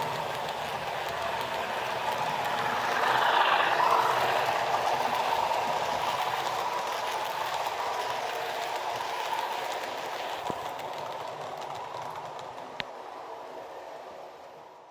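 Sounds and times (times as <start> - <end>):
model train running on track: 0.0 - 14.9.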